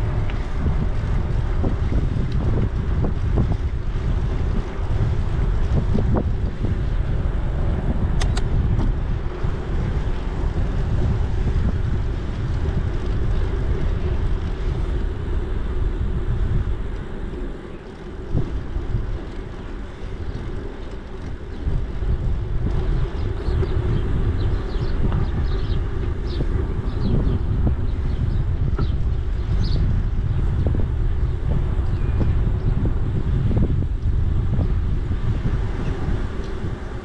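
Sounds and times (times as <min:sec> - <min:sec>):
bicycle tyres rolling on path: 0:00.0 - 0:37.0
wind buffeting microphone: 0:00.0 - 0:37.0.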